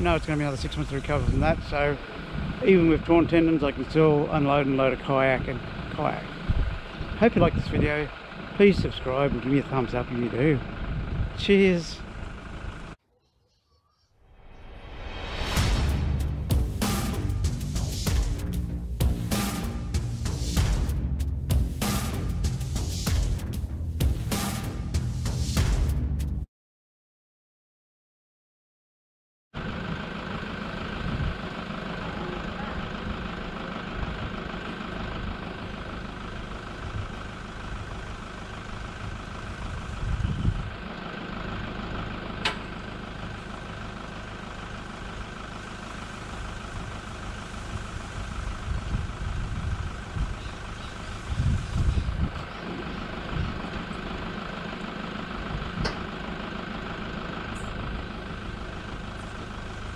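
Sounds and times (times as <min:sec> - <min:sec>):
engine idling: 0:00.0 - 0:13.0, 0:14.8 - 0:26.2, 0:29.6 - 0:59.9
low rumbles: 0:00.0 - 0:13.0, 0:14.3 - 0:26.3, 0:29.6 - 0:45.3, 0:46.2 - 0:59.9.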